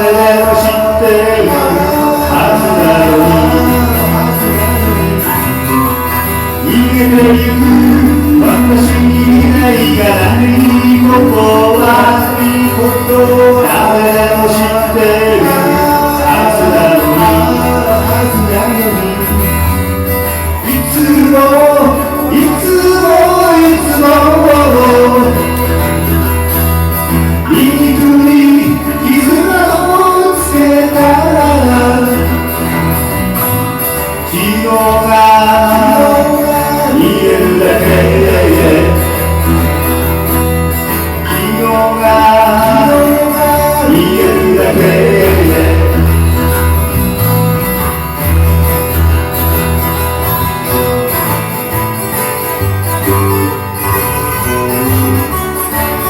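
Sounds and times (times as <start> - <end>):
bass: 0.0 - 56.0
guitar: 0.0 - 56.0
live band music: 0.0 - 56.0.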